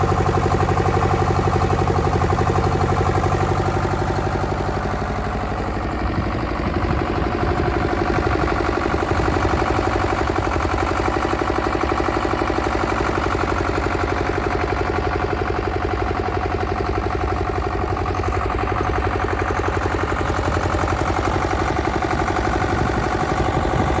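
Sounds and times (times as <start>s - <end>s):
paver engine idling: 0.0s - 24.0s.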